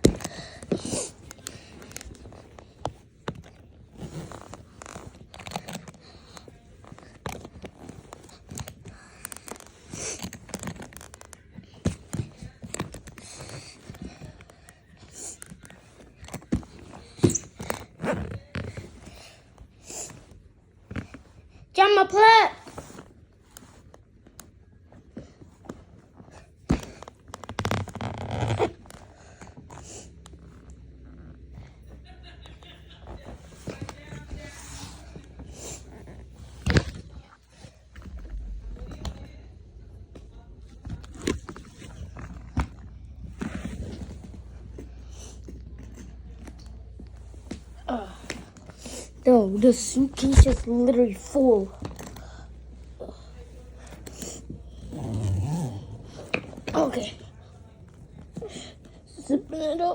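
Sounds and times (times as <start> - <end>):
clothes rustling: 0.0 - 59.9.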